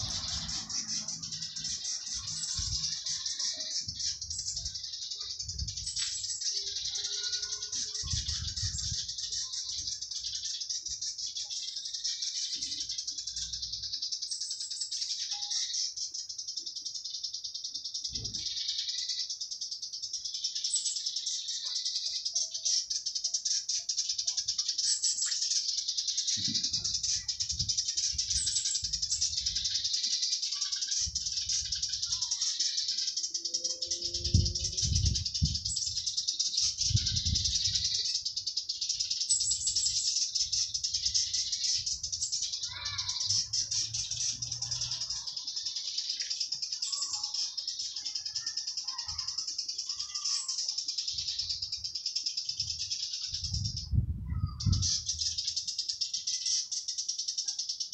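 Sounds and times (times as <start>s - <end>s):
insect chorus: 0.0s - 53.5s
cicadas buzzing: 0.0s - 53.8s
faint bird chirps: 0.0s - 57.9s.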